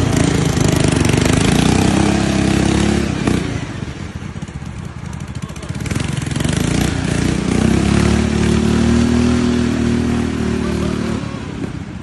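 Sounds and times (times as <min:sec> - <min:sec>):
small tractor engine revving: 0:00.0 - 0:12.0.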